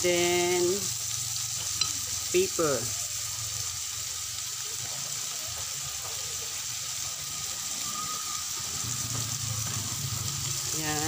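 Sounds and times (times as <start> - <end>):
shrimps sizzling in a wok: 0.0 - 11.0
spatula stirring in a wok: 0.8 - 11.0.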